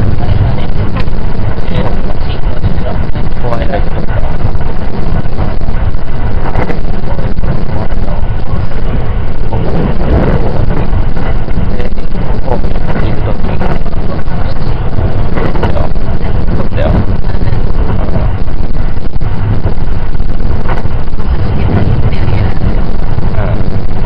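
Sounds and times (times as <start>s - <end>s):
train interior rumble and hiss: 0.0s - 24.0s.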